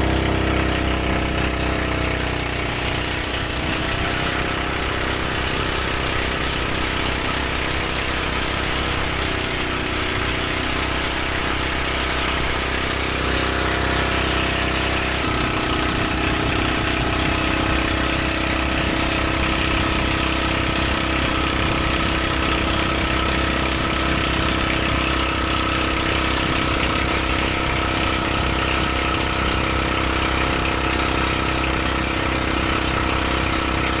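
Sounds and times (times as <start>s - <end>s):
boat engine running: 0.0s - 34.0s
wind: 0.0s - 34.0s.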